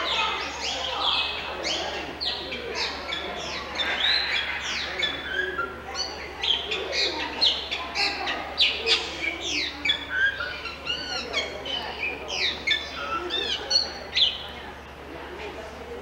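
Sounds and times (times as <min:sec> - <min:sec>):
many small birds chirping: 0:00.0 - 0:16.0.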